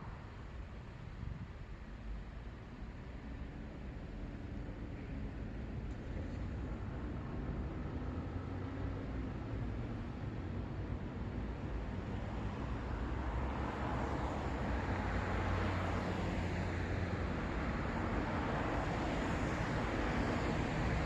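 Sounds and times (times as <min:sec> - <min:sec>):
road traffic passing: 0:03.2 - 0:21.0.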